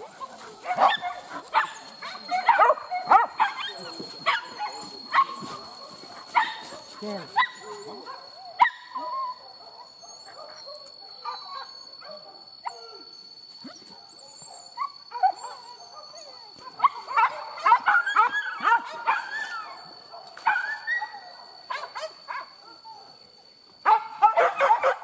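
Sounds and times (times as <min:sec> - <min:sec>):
dogs yipping and whining: 0:00.0 - 0:25.0.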